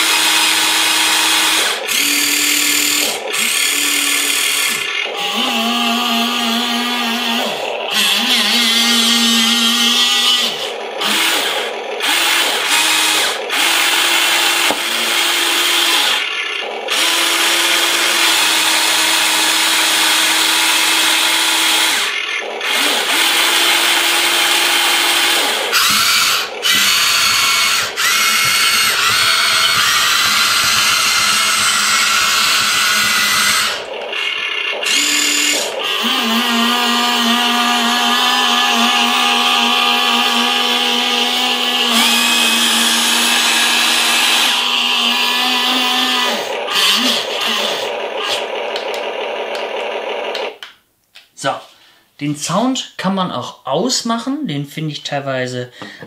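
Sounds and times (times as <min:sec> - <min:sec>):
toy excavator motors whining: 0:00.0 - 0:50.7.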